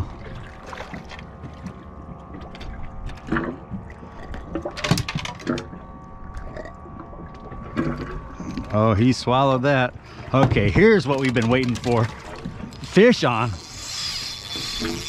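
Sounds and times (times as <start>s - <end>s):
faint steady hum: 0.0s - 15.0s
water lapping against boat hull: 0.0s - 15.0s.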